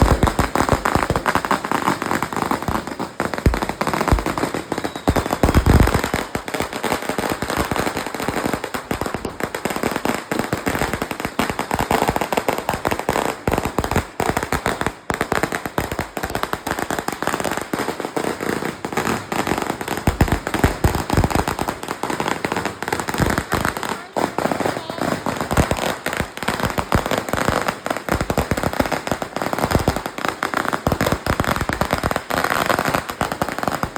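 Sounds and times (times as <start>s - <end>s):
firecrackers crackling: 0.0s - 33.9s.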